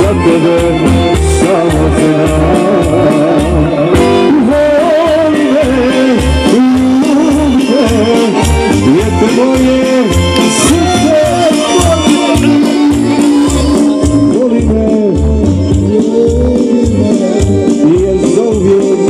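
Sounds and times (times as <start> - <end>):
folk dance music with singing: 0.0 - 19.0.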